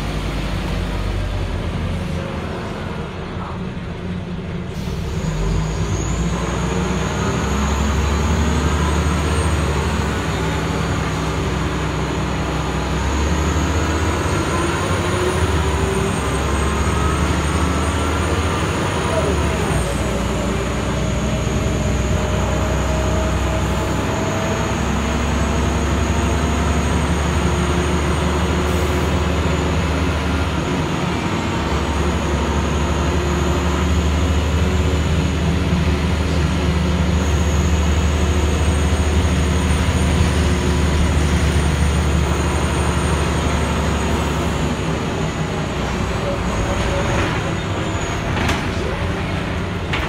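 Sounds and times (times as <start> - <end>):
bus engine drone: 0.0 - 50.0
road rumble: 0.0 - 50.0.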